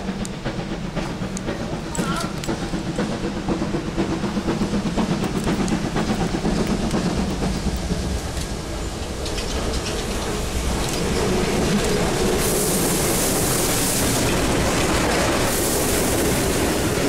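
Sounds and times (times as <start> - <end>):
steam locomotive exhaust beating: 0.0 - 17.0
wheels clicking on track: 0.0 - 17.0.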